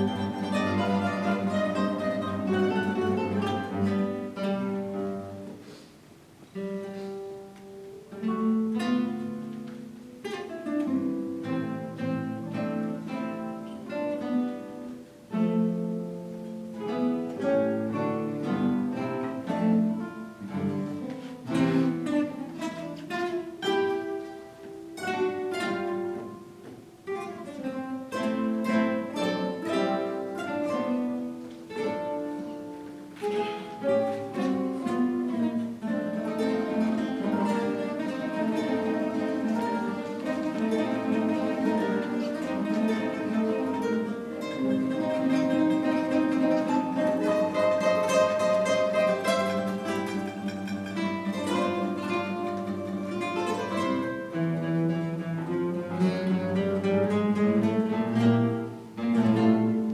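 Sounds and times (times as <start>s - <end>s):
guitar ensemble playing: 0.0s - 59.9s.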